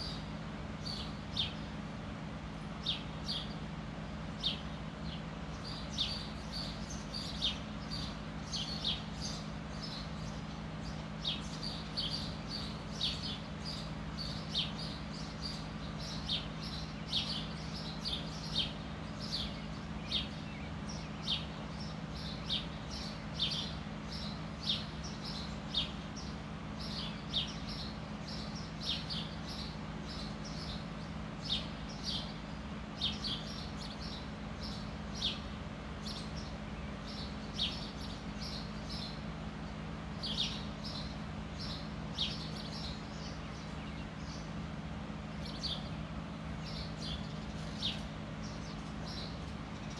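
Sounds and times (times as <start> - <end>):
bird chirping: 0.0 - 49.9
steady low hum: 0.0 - 49.9.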